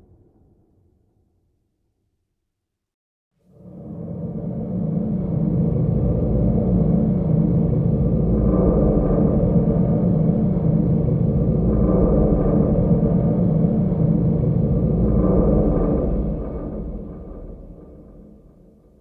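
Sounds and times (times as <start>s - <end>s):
dark suspense drone: 3.6s - 19.0s.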